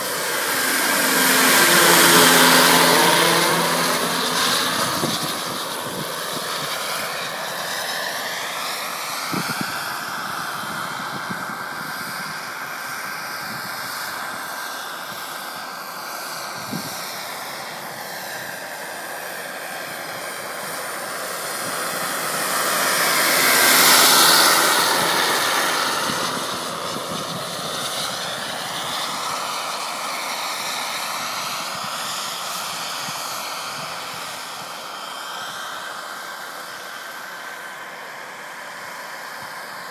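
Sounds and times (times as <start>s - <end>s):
model helicopter engine and rotor whine: 0.0s - 39.9s.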